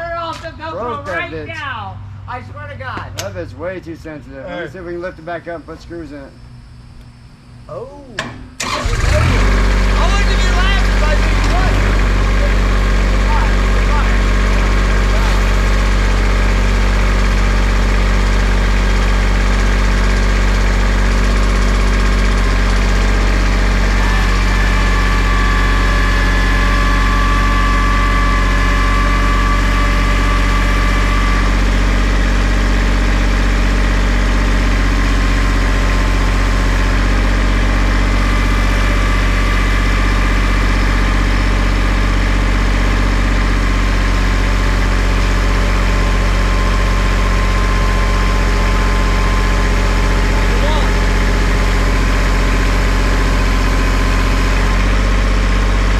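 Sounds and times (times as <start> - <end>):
tractor diesel engine idling: 8.2 - 55.9.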